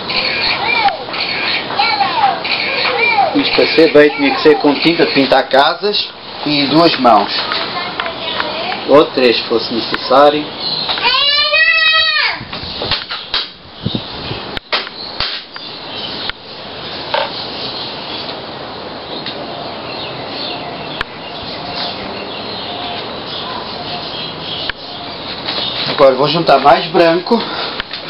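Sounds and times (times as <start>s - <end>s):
steady background noise: 0.0s - 28.0s.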